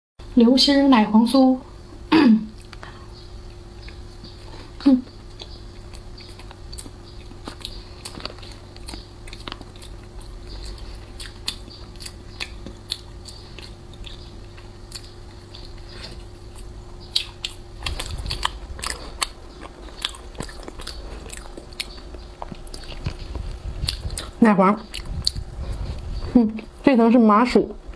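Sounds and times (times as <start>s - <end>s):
biting and chewing pastry: 3.5s - 26.3s.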